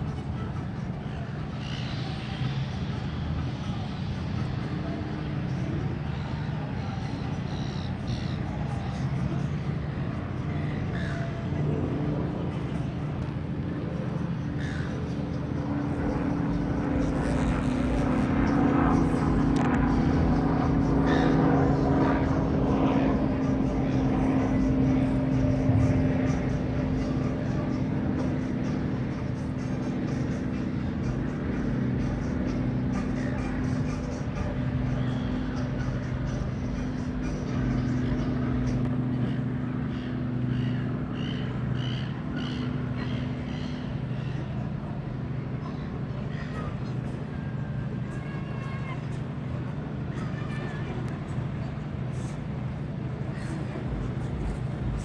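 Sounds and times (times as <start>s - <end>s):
low hum: 0.0s - 48.1s
mechanical drone: 0.0s - 55.0s.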